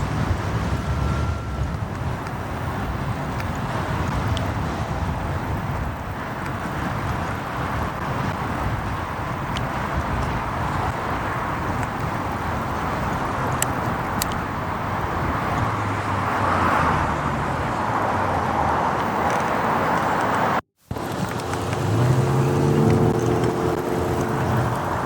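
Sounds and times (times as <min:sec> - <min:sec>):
motorcycle engine: 0:00.0 - 0:25.0
road noise: 0:00.0 - 0:25.0
wind noise: 0:00.0 - 0:25.0.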